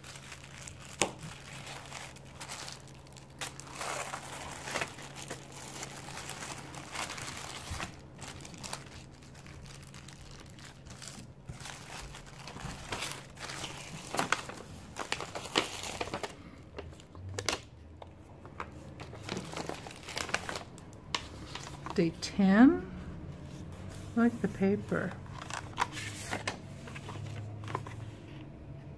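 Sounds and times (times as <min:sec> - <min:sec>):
plastic wrapping crinkling: 0:00.0 - 0:17.7, 0:18.4 - 0:22.3, 0:23.6 - 0:28.1.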